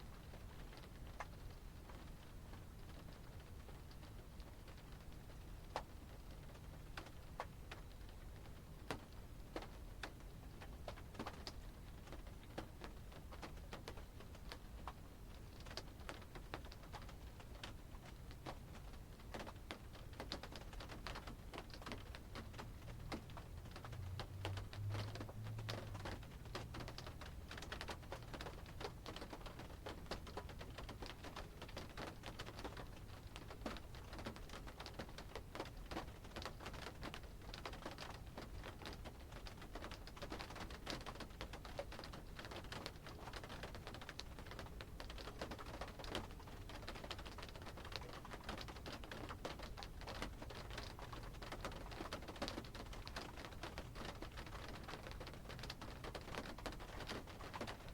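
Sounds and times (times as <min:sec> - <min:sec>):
raindrops tapping on car roof: 0:00.2 - 0:57.9.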